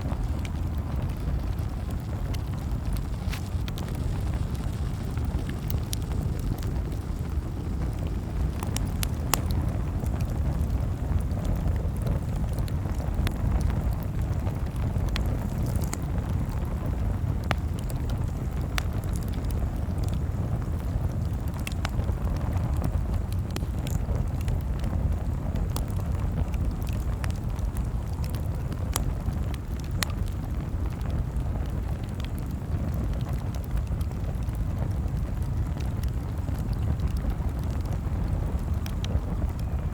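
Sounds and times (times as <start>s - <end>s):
burning wood popping and crackling: 0.0s - 39.9s
rumble of bonfire flames: 0.0s - 39.9s.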